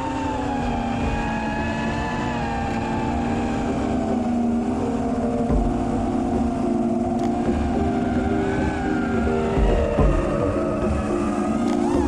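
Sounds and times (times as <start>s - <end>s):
drone motors whining: 0.0s - 12.0s
wind rumble on microphone: 0.0s - 12.0s.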